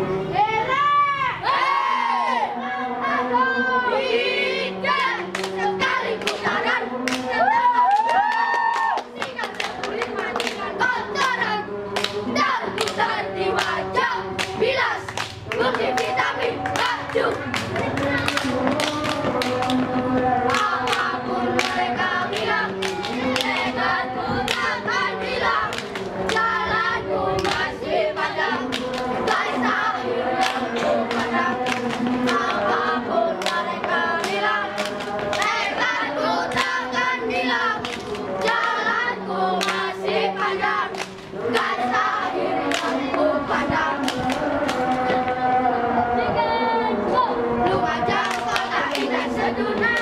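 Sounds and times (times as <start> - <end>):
boys singing and chanting: 0.0 - 50.0.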